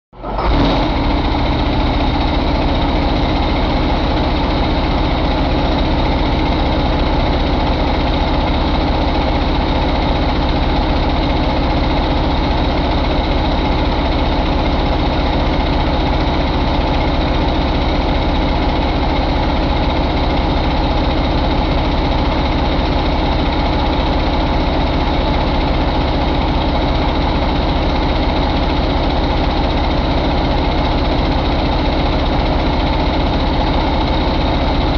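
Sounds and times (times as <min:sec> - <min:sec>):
diesel engine idling: 0:00.2 - 0:34.9.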